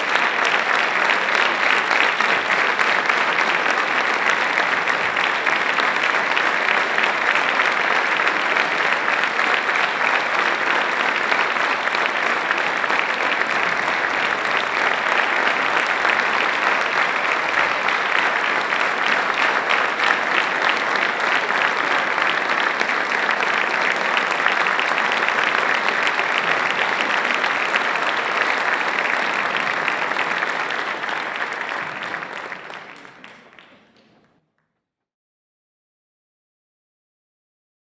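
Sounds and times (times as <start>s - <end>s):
audience applauding: 0.0s - 34.6s.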